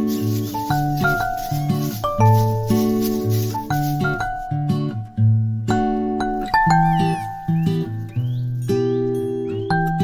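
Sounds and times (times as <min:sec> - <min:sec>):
light instrumental guitar music: 0:00.0 - 0:10.0.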